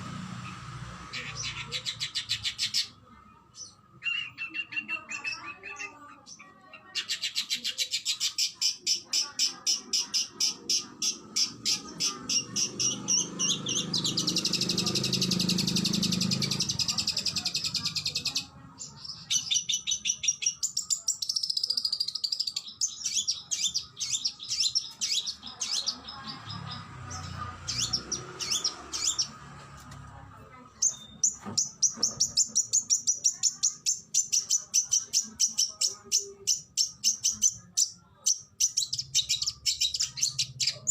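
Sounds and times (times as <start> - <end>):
bird singing: 3.6 - 29.5, 30.8 - 40.9.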